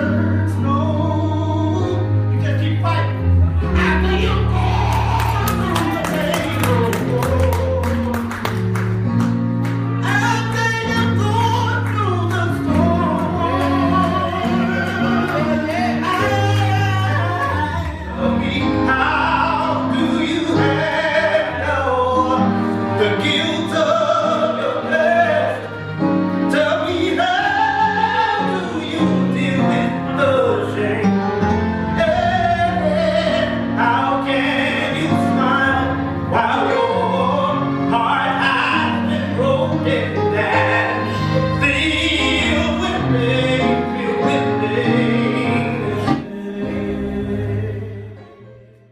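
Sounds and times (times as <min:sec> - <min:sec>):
man singing: 0:00.0 - 0:04.7, 0:05.3 - 0:08.6, 0:09.9 - 0:48.6.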